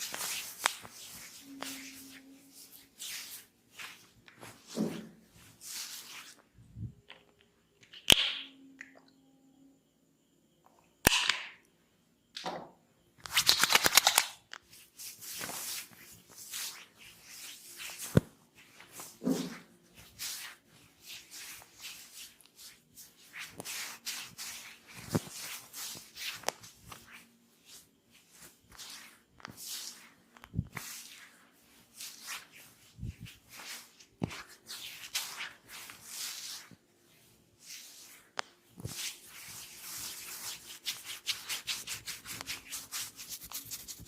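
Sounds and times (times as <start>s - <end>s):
soft rustling: 0.0s - 7.4s, 14.6s - 44.0s.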